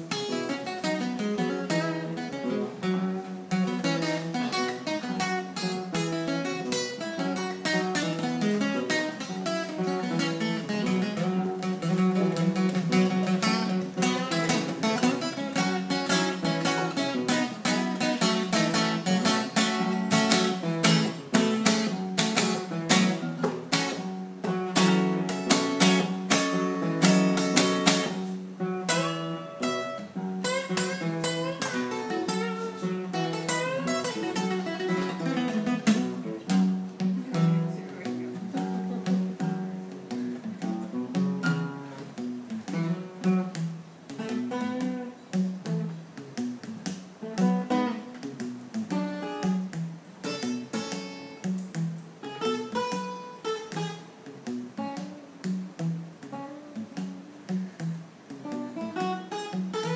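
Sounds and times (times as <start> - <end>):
acoustic guitars playing blues: 0.0 - 59.9.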